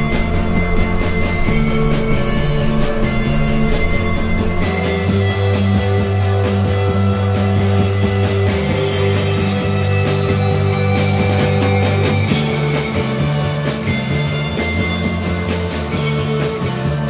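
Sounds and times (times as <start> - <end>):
drum kit: 0.0 - 17.0
electric bass: 0.0 - 17.0
electric guitars: 0.0 - 17.0.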